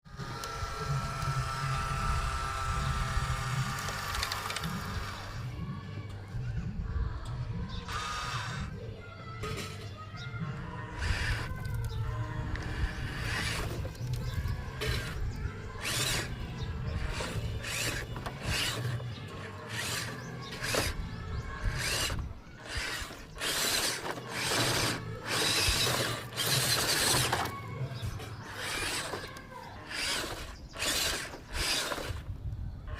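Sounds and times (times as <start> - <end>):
toy gear motors whirring: 0.1 - 5.6, 7.0 - 32.9.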